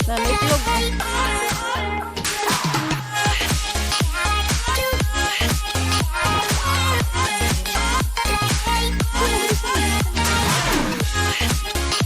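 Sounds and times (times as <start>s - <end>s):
upbeat dance music: 0.0s - 12.0s.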